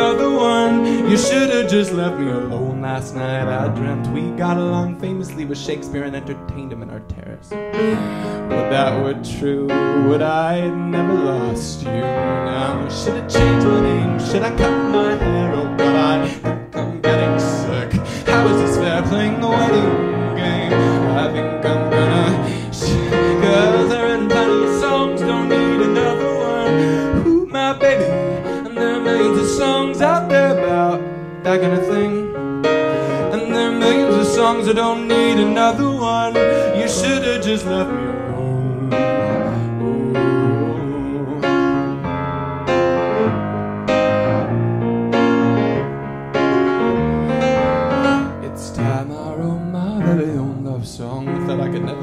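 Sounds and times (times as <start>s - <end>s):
man singing: 0.0s - 42.2s, 46.8s - 52.0s
piano accompaniment: 0.0s - 52.0s.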